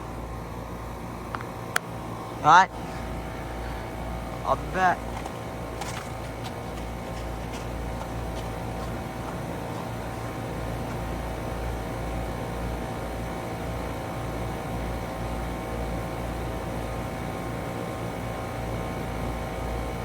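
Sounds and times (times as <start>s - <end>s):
compressors humming: 0.0s - 20.0s
outdoor fans blowing: 0.0s - 20.0s.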